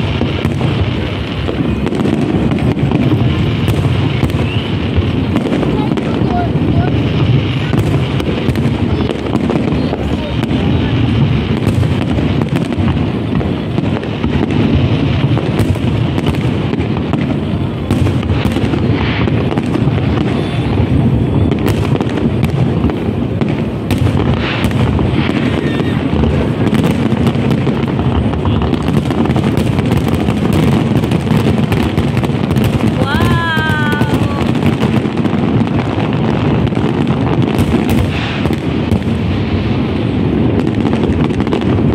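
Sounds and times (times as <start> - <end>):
fireworks barrage cracking: 0.0 - 41.9.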